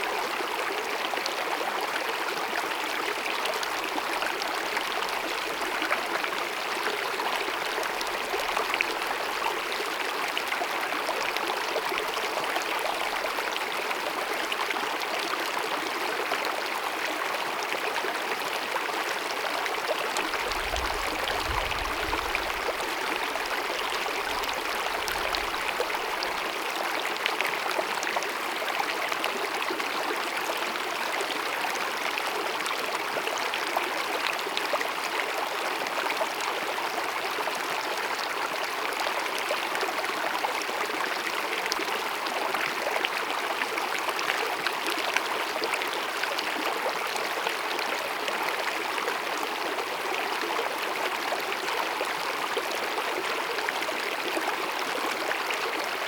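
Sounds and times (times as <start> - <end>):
stream babbling over rocks: 0.3 - 56.0.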